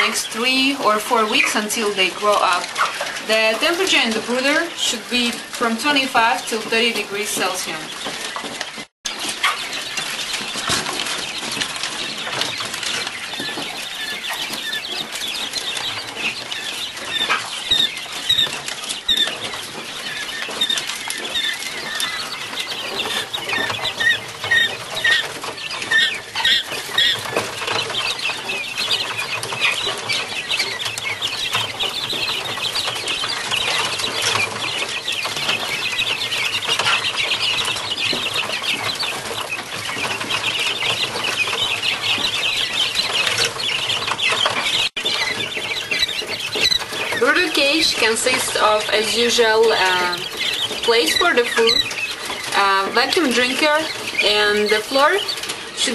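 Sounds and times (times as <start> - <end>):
chicks scratching on wire mesh: 0.0 - 55.9
quail chicks peeping: 0.0 - 55.9.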